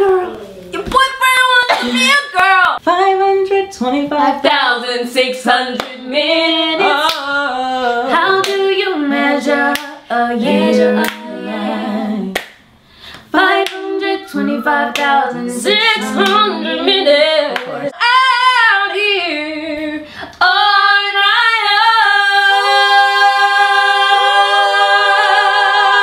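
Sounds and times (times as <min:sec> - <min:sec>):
young women singing a cappella: 0:02.8 - 0:26.0.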